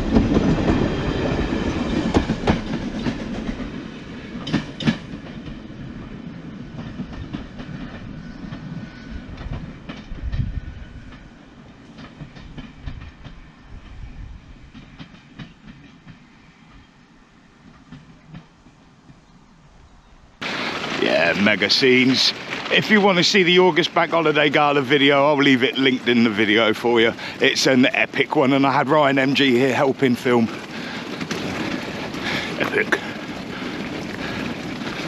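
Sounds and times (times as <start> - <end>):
train wheels clicking on rails: 0.0 - 19.3, 20.4 - 35.0.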